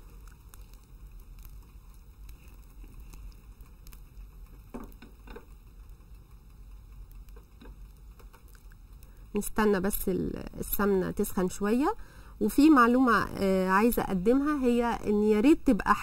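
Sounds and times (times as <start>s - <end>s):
ghee sizzling in a pan: 0.0s - 16.0s.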